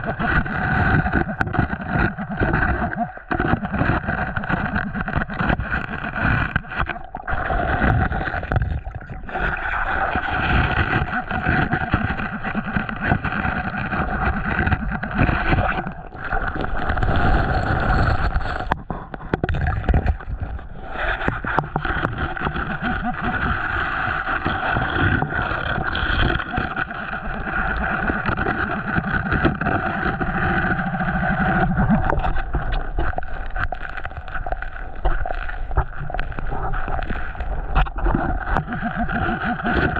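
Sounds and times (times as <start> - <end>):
muffled water movement: 0.0 - 39.9.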